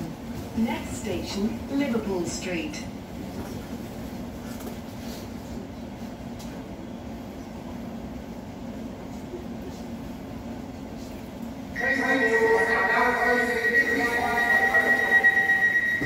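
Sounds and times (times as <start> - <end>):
train carriage rumble and hum: 0.0 - 16.0.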